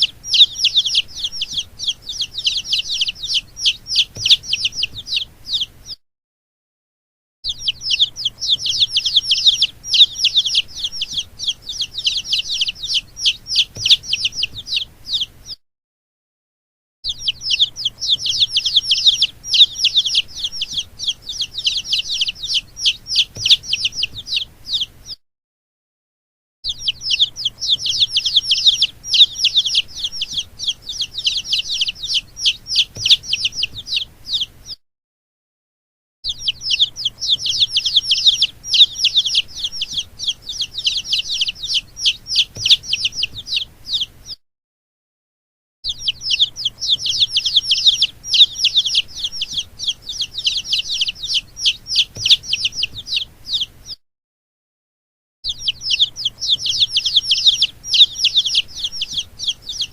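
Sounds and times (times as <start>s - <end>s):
baby chicks peeping: 0.0s - 6.0s, 7.4s - 15.6s, 17.0s - 25.2s, 26.6s - 34.8s, 36.2s - 44.4s, 45.9s - 54.0s, 55.4s - 59.9s.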